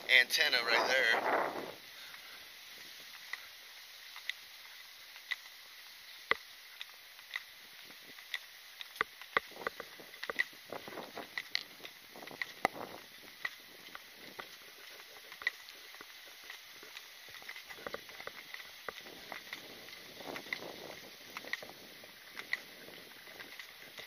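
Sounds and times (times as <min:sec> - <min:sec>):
rustle of movement: 0:00.0 - 0:24.0
gear clicking and rattling: 0:02.8 - 0:24.0.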